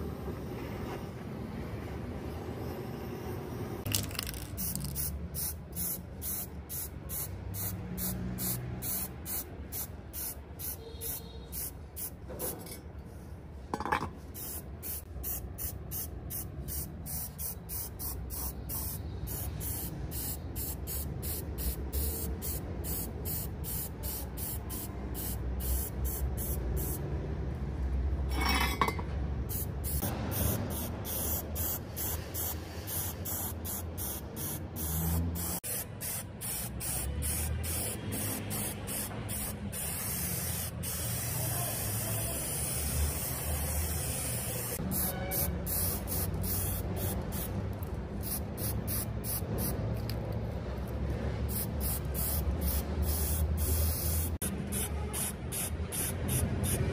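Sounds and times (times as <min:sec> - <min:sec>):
spray paint can hissing: 0:03.8 - 0:12.2, 0:14.2 - 0:27.0, 0:29.5 - 0:50.3, 0:51.5 - 0:56.9.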